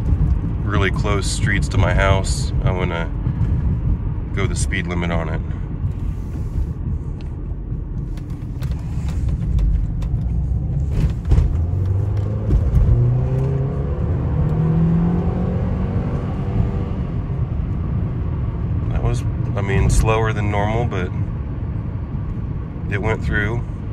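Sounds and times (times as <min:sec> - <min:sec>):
car engine accelerating: 0:00.0 - 0:23.9
road rumble: 0:00.0 - 0:23.9.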